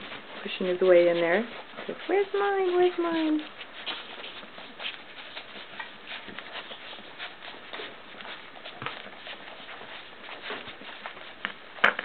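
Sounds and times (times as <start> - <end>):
puppies shuffling: 0.0 - 12.0
puppies suckling: 0.0 - 12.0.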